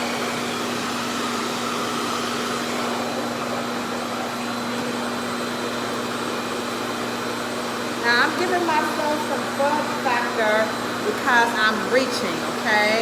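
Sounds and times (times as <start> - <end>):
hair dryer suction running: 0.0 - 13.0.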